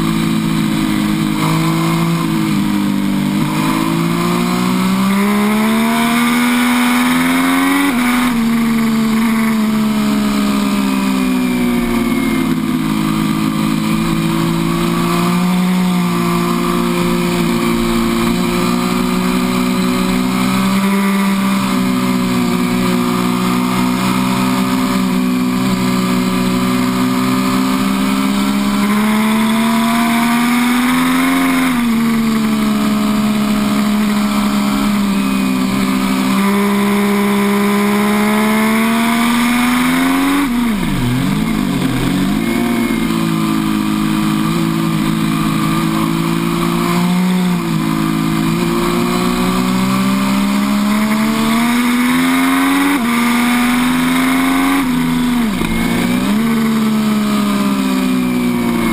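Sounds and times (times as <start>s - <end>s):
motorcycle engine at high revs: 0.0s - 58.9s.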